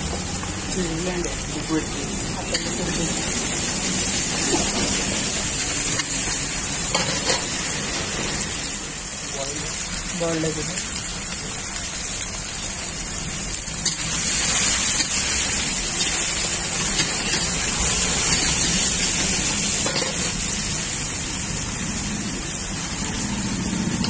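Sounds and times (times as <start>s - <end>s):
eggs sizzling in hot oil: 0.0s - 24.0s.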